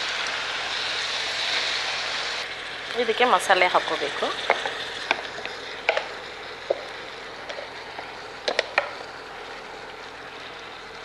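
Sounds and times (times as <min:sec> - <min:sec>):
faint sizzle: 0:00.0 - 0:11.0.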